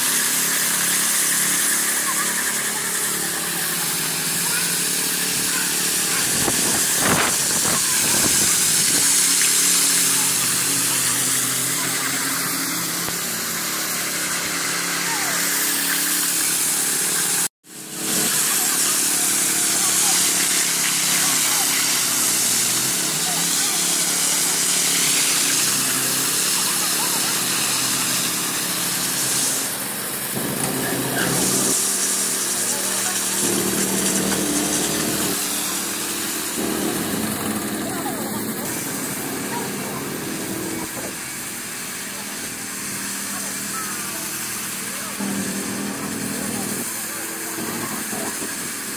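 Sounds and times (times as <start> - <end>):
power trowel engine running: 0.0 - 48.9
steady hiss of blades: 0.0 - 48.9.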